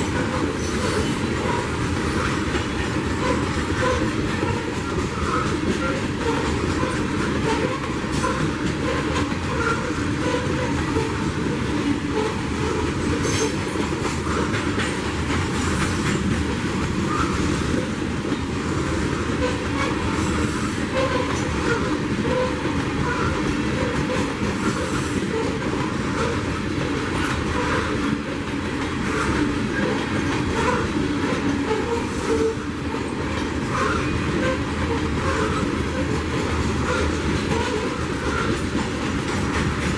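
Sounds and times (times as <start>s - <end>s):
freight train rumbling past: 0.0s - 39.9s
train wheel clicks: 0.0s - 39.9s.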